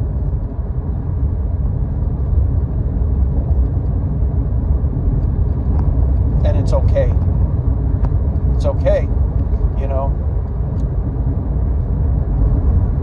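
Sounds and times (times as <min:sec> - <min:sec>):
road noise inside car: 0:00.0 - 0:13.0.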